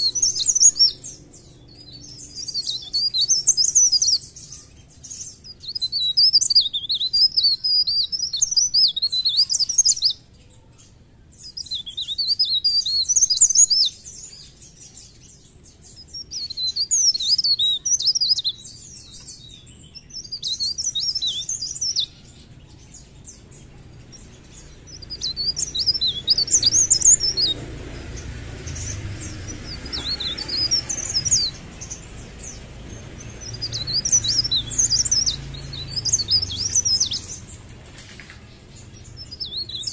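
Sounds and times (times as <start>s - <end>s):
bird twittering: 0.0s - 10.8s, 11.4s - 39.9s.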